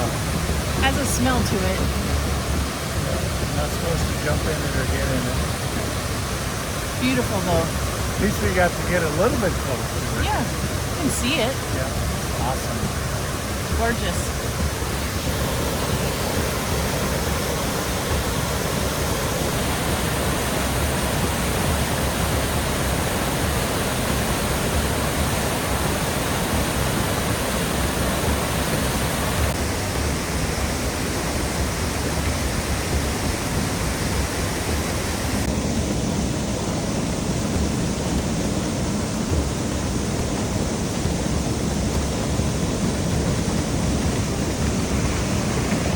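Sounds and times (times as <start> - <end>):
waterfall rushing: 0.0 - 38.2.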